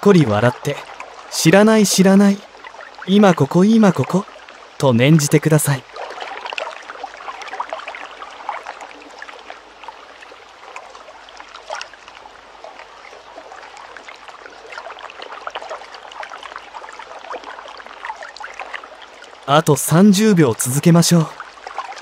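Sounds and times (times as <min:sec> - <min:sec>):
small water splashes: 0:00.0 - 0:22.0
water lapping at shore: 0:00.0 - 0:22.0.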